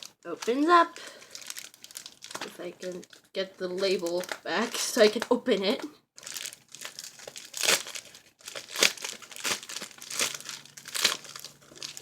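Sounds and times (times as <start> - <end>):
mailer package crinkling: 0.0 - 12.0.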